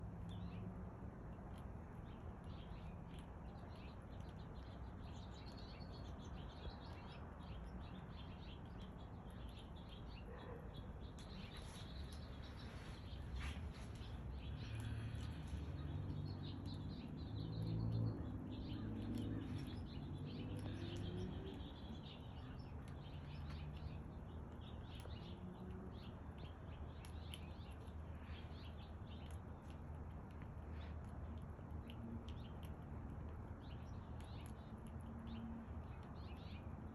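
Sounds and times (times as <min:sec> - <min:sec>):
squirrel chewing and gnawing: 0:00.0 - 0:36.9.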